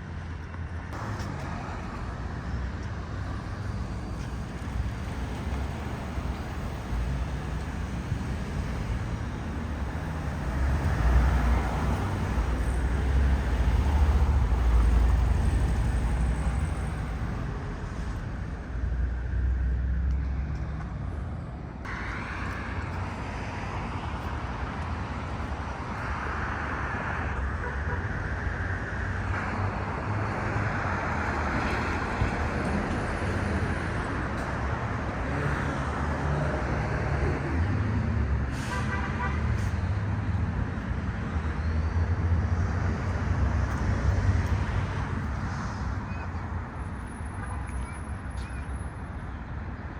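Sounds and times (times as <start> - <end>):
cars passing: 0.0 - 49.9
heavy vehicle rumble: 0.0 - 49.9.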